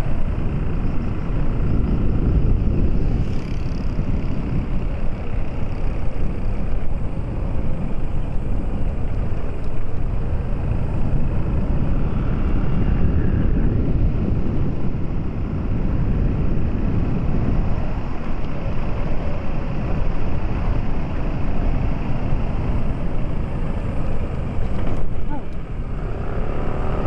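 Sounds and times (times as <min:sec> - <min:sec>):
vehicle rumbling on road: 0:00.0 - 0:27.0
wind buffeting microphone: 0:00.0 - 0:27.0.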